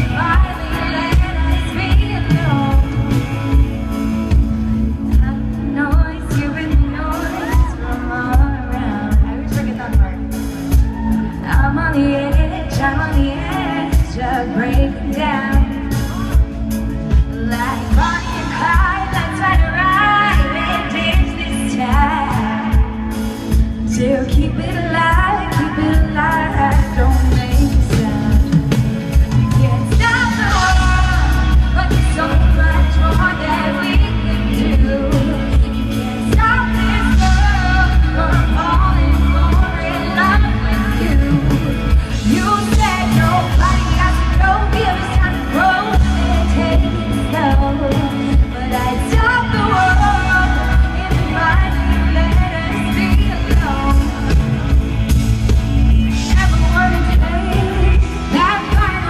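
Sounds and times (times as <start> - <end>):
live pop band playing: 0.0 - 59.0
person singing: 0.0 - 59.0.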